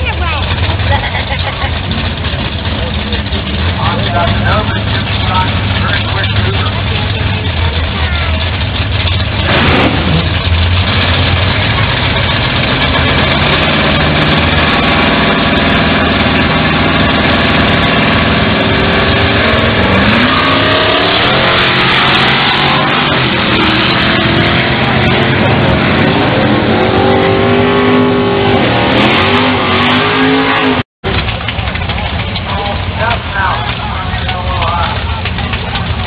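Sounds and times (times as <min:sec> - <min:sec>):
drag racing engines revving: 0:00.0 - 0:36.0.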